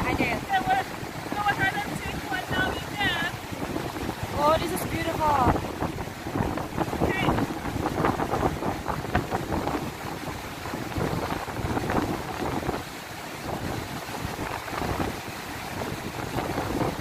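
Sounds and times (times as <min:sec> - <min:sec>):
fast stream flowing: 0:00.0 - 0:17.0
waterfall rushing: 0:00.0 - 0:17.0
wind buffeting microphone: 0:00.0 - 0:17.0.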